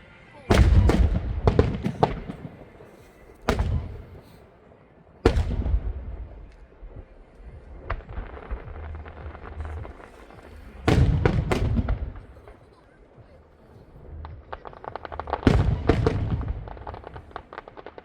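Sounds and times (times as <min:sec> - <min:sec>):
fireworks crackling: 0:00.0 - 0:18.0
fireworks bangs with rumble: 0:00.5 - 0:04.4, 0:05.2 - 0:18.0.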